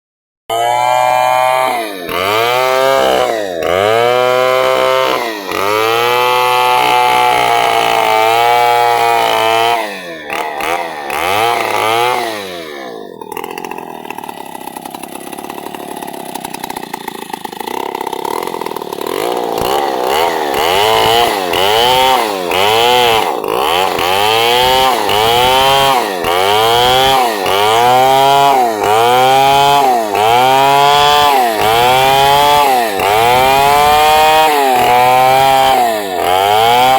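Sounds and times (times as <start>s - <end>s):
chainsaw cutting wood: 0.5s - 36.9s.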